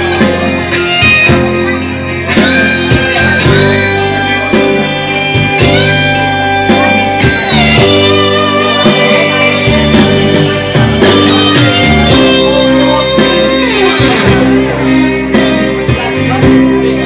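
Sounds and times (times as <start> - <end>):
electric guitar bluesy lead: 0.0 - 17.0
low bass notes: 0.0 - 17.0.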